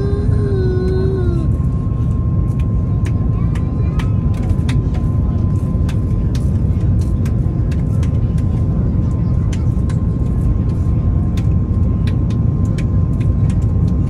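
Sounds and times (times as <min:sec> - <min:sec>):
airliner cabin engine roar: 0:00.0 - 0:14.0.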